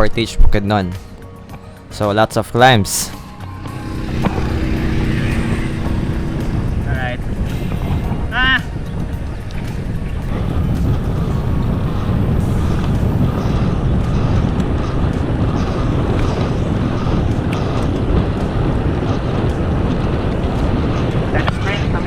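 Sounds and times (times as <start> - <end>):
wind rushing over microphone: 1.6 - 22.0.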